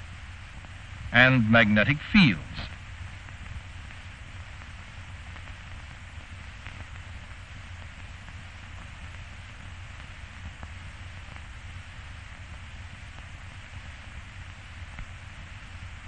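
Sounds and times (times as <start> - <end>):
film soundtrack hiss and hum: 0.0 - 16.0.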